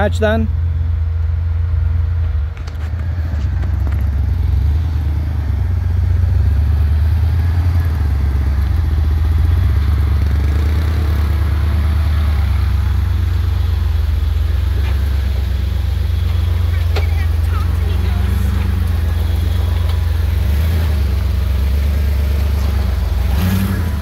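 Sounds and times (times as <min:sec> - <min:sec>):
engine low rumble: 0:00.0 - 0:24.0.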